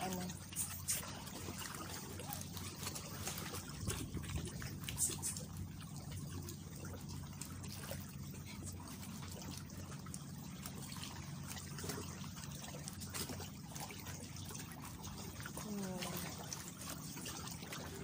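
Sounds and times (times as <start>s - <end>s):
low hum: 0.0s - 18.0s
seawater lapping over stones: 0.0s - 18.0s.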